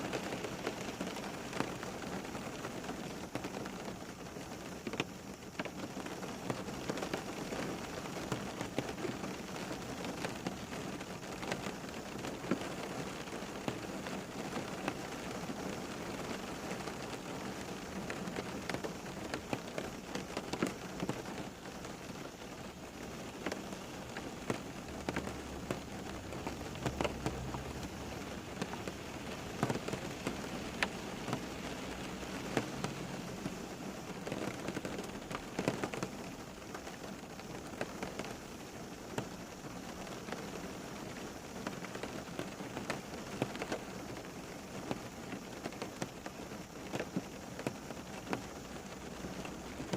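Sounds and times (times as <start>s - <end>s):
rain pattering on a surface: 0.0s - 49.9s.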